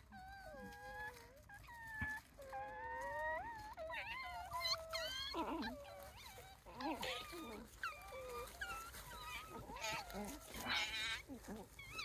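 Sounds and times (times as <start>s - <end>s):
pups whimpering and whining: 0.0s - 12.0s.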